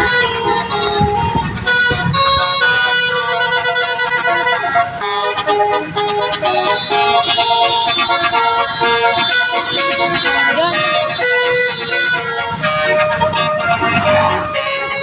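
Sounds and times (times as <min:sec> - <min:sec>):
bus multi-tone horn melody: 0:00.0 - 0:15.0.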